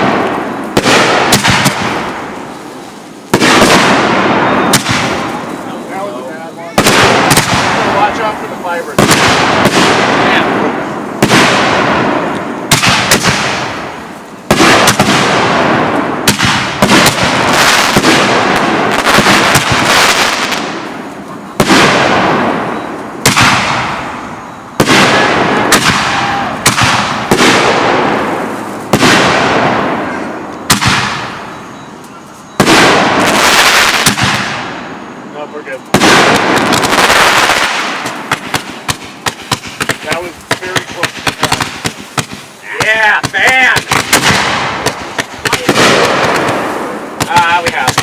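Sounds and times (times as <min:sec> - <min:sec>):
firework shells bursting: 0:00.0 - 0:31.6, 0:35.9 - 0:48.0.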